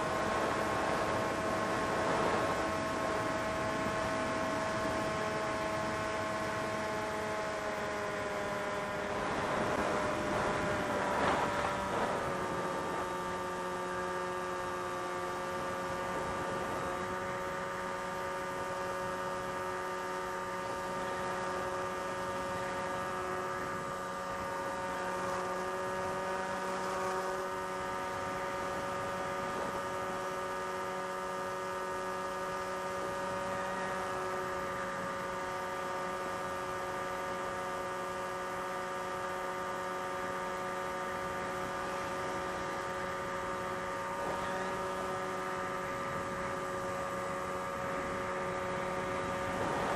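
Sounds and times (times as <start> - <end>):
drone motors and propellers whining: 0.0 - 49.9.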